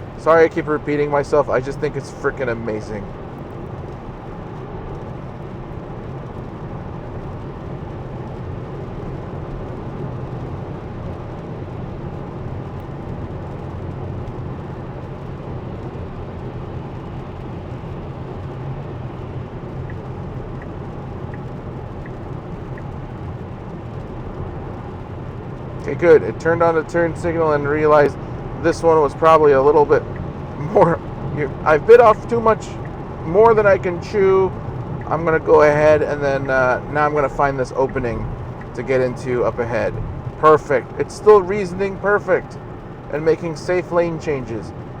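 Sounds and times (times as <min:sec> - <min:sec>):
road and tyre noise: 0:00.0 - 0:45.0
turn signal ticking: 0:00.0 - 0:45.0.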